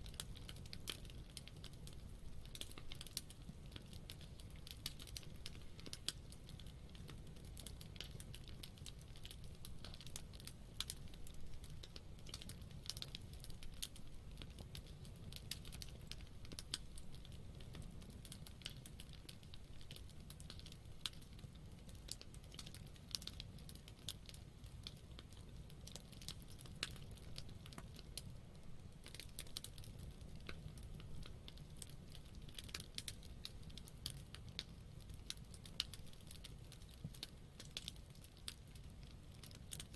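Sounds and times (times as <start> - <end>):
wood campfire crackling: 0.0 - 39.9.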